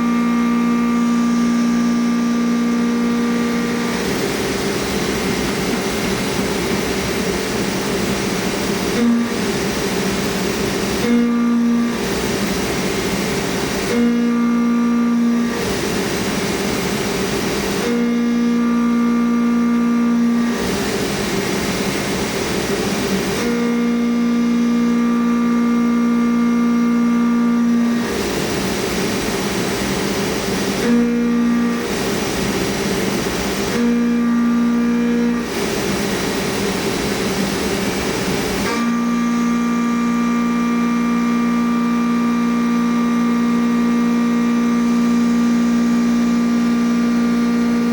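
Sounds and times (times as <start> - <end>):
milling machine cutting steel: 0.0 - 47.9.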